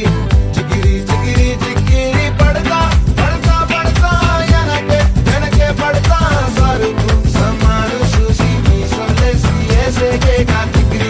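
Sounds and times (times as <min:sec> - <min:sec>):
afrobeat style music: 0:00.0 - 0:11.0.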